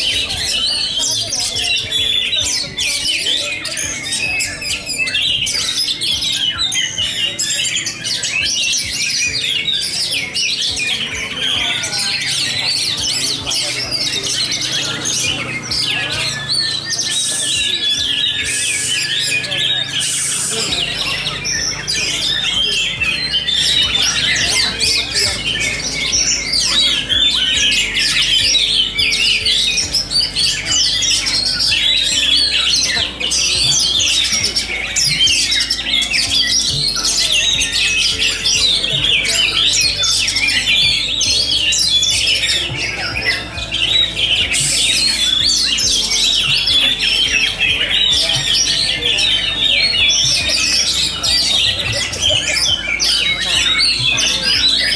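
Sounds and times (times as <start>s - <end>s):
chorus of birds singing: 0.0s - 54.9s.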